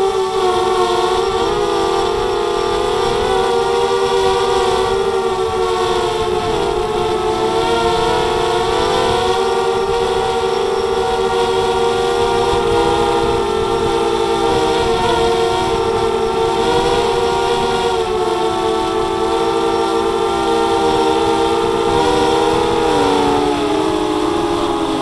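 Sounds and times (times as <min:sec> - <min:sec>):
drone propellers whining: 0:00.0 - 0:25.0
wind noise: 0:00.0 - 0:25.0.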